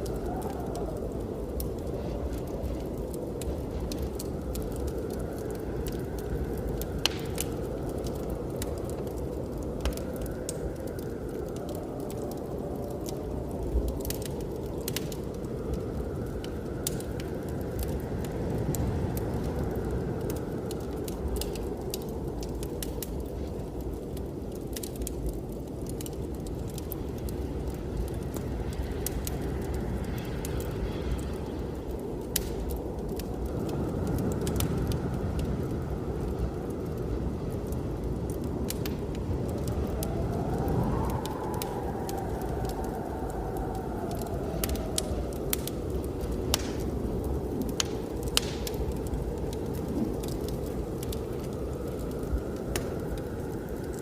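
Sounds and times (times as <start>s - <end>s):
blizzard wind rushing: 0.0s - 54.0s
wood fire crackling and popping: 0.0s - 54.0s.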